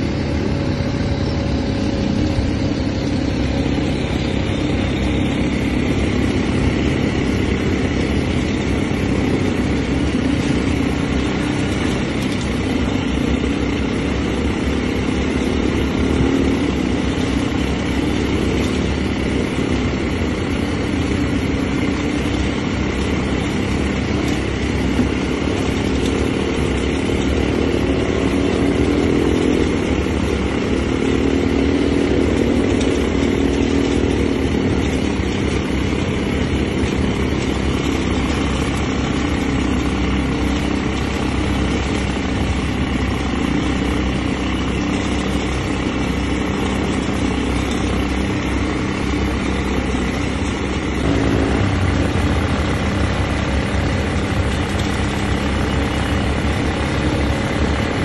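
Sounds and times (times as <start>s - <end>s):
atv engines droning: 0.0s - 58.0s.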